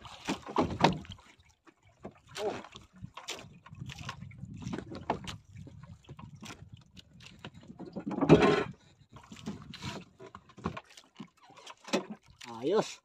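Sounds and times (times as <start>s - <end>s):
knocks and rattles on boat: 0.0s - 13.0s.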